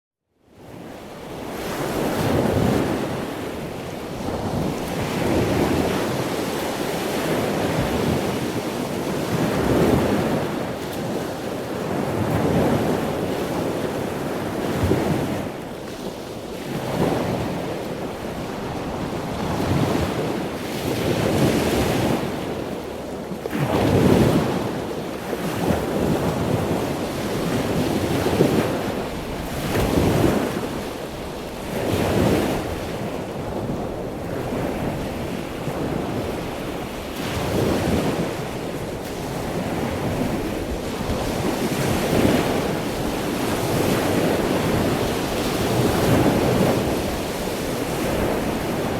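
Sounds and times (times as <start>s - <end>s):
wind buffeting microphone: 0.7s - 48.9s.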